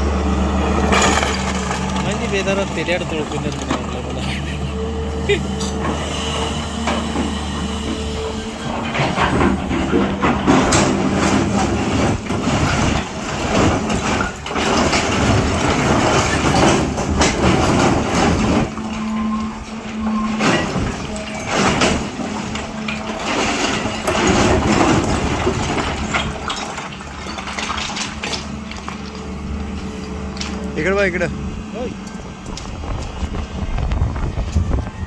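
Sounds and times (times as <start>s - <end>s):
diesel engine under load: 0.0s - 35.0s
excavator clanking and scraping: 0.0s - 35.0s.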